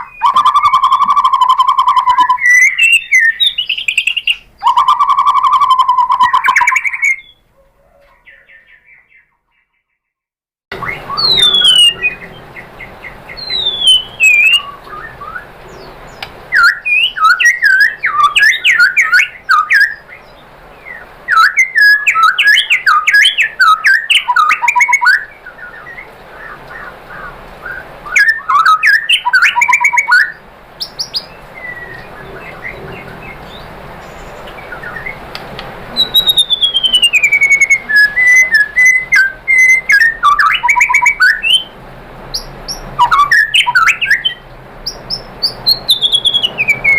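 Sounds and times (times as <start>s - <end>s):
bird singing rapid whistles and trills: 0.0s - 7.5s, 10.7s - 46.9s.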